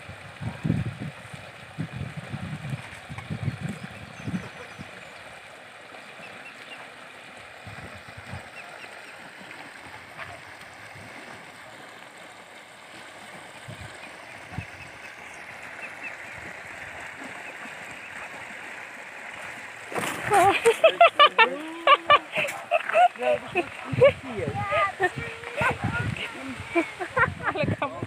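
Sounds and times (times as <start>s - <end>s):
flowing water: 0.0s - 28.0s
swans splashing in water: 0.0s - 28.0s.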